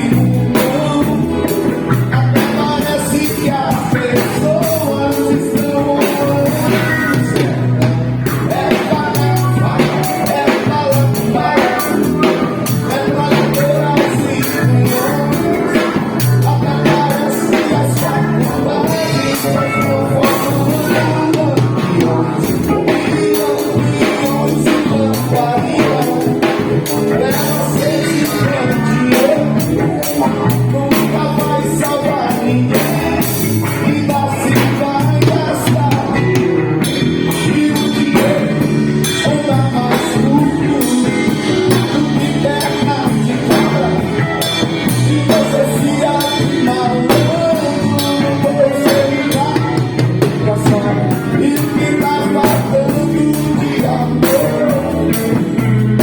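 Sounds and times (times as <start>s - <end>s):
band playing rock backed tune: 0.0s - 56.0s.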